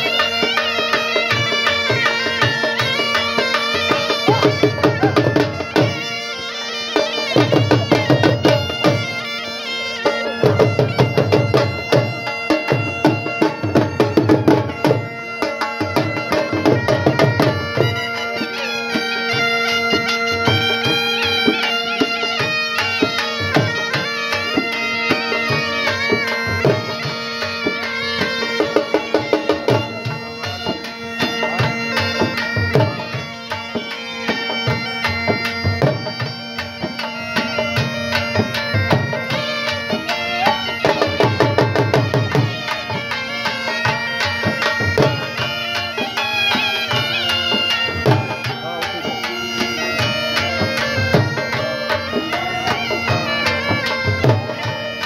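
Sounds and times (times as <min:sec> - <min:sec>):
bagpipe drone and melody: 0:00.0 - 0:55.0
dhol drum beats: 0:00.0 - 0:55.0.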